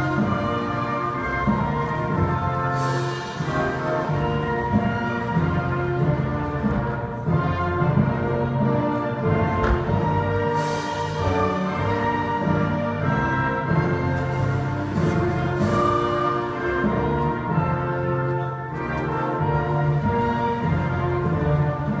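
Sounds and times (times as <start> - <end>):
orchestral anthem with brass: 0.0 - 22.0.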